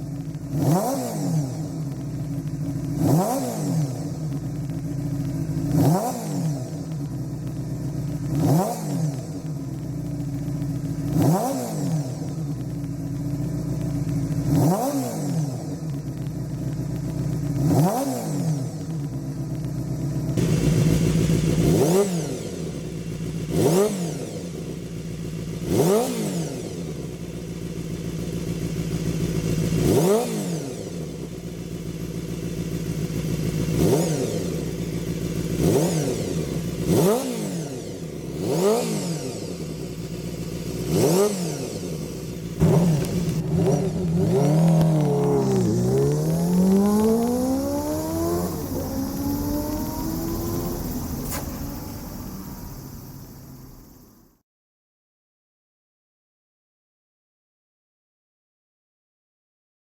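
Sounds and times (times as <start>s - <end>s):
motorcycle engine idling and revving: 0.0s - 54.4s.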